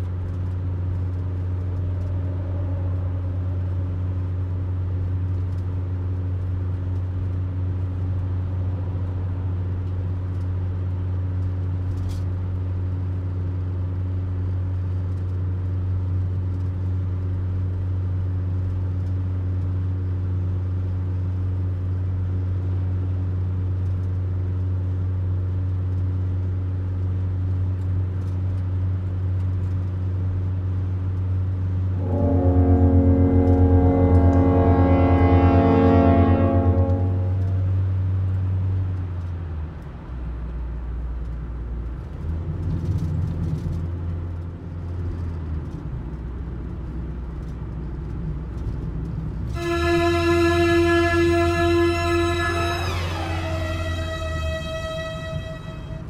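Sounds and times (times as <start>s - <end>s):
van engine and tyres hum: 0.0s - 56.0s.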